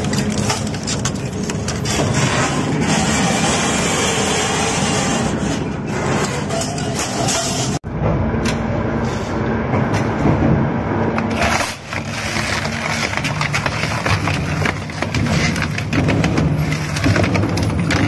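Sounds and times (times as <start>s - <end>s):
crusher machine grinding: 0.0s - 7.8s, 11.2s - 18.0s.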